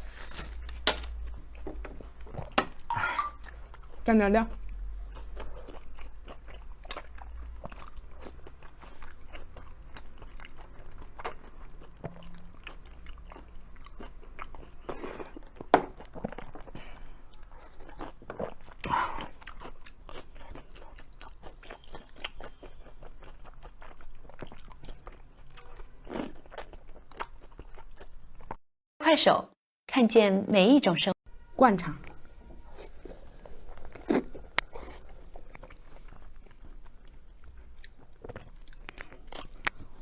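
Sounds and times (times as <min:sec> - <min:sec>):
person chewing wet food: 0:01.2 - 0:28.6, 0:32.1 - 0:40.0.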